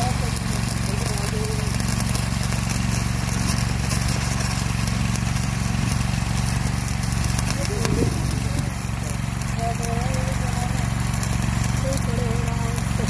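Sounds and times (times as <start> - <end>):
generator engine drone: 0.0 - 13.0
welding torch hissing and crackling: 0.0 - 13.0.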